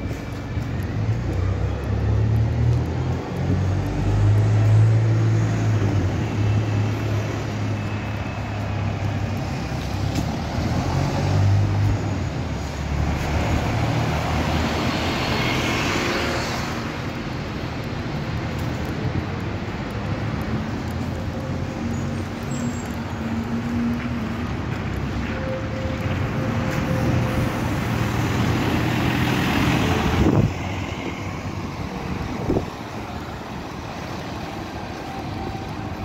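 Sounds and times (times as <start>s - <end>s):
bus engine drone: 0.0s - 36.0s
street traffic: 0.0s - 36.0s.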